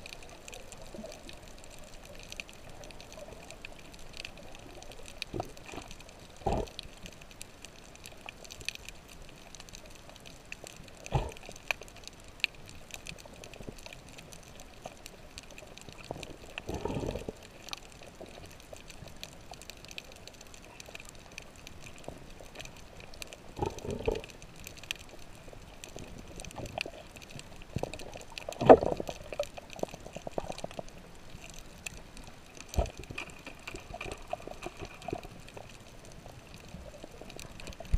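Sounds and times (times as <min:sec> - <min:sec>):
faint underwater crackle: 0:00.0 - 0:37.9.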